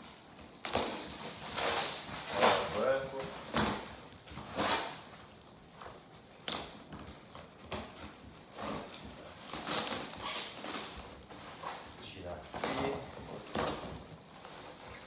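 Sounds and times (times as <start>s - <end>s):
cardboard and tape tearing: 0.0s - 15.0s.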